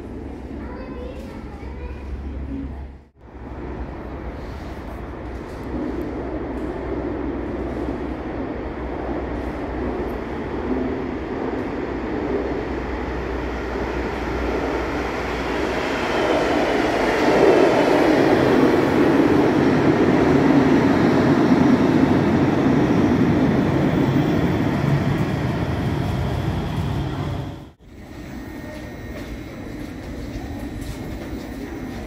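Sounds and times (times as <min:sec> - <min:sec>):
train wheels running on rails: 0:03.3 - 0:32.0.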